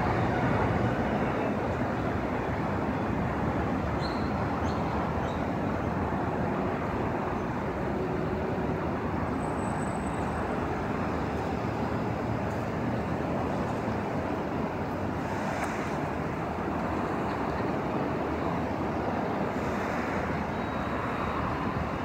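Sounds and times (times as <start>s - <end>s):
city road traffic: 0.0s - 22.0s.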